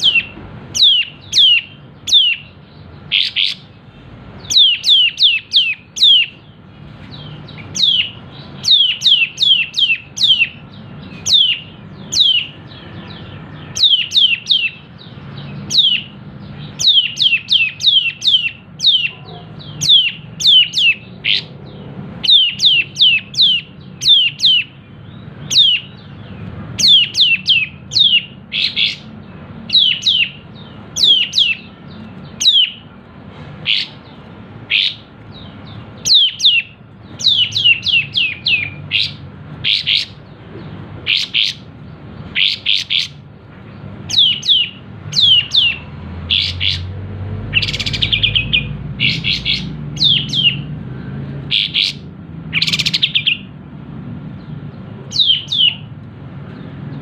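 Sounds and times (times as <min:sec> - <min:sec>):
buzzy bird notes: 0:00.0 - 0:53.5
bird chirping: 0:00.0 - 0:57.0.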